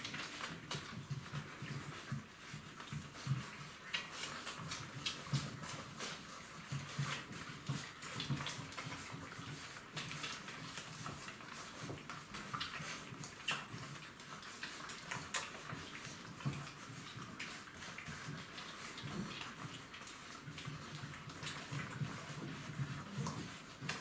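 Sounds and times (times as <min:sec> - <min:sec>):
puppies suckling: 0:00.0 - 0:24.0.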